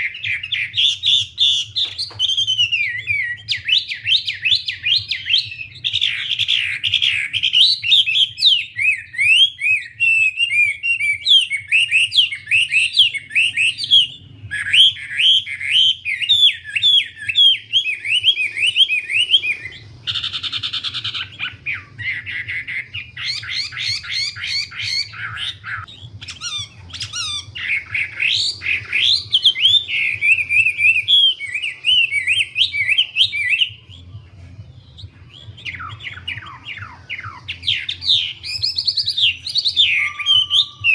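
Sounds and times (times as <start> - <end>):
faint low hum: 0.0 - 40.9
songbird chattering song: 0.0 - 40.9.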